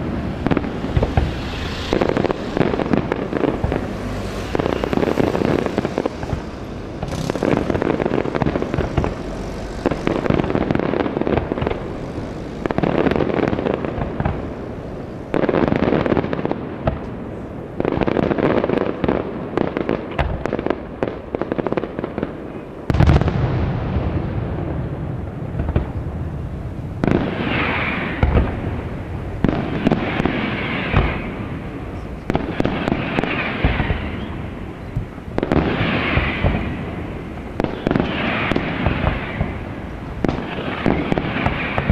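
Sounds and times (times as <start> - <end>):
fireworks booming: 0.0 - 41.9
fireworks crackling: 0.0 - 41.9.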